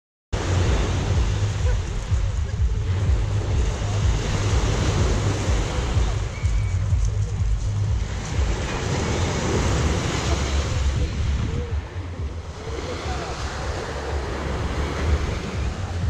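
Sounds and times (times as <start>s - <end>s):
waves washing onto shore: 0.4s - 16.0s
wind rumbling on microphone: 0.4s - 16.0s.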